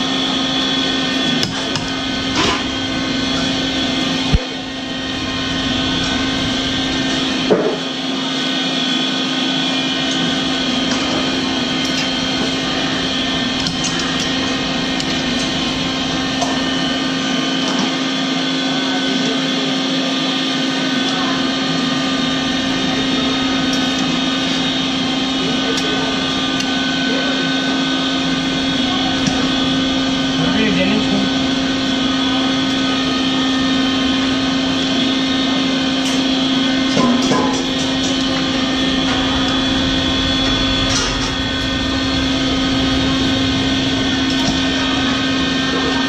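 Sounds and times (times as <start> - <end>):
loud mechanical hum: 0.0 - 46.0.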